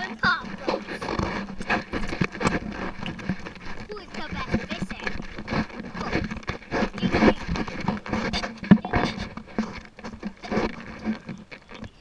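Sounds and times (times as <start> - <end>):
camera handling knocks and scrapes: 0.4 - 11.9.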